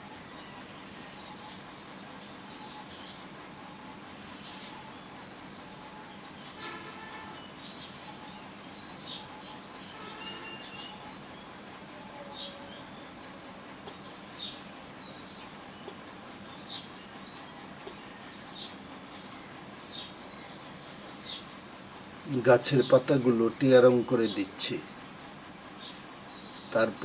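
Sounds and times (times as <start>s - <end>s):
high-pitched pulsing chirp: 0.0s - 27.0s.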